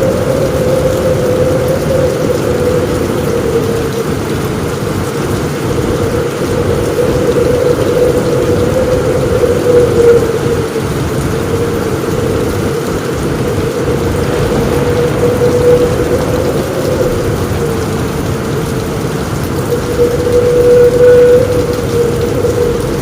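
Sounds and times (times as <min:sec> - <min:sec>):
heavy rain on a roof: 0:00.0 - 0:23.0.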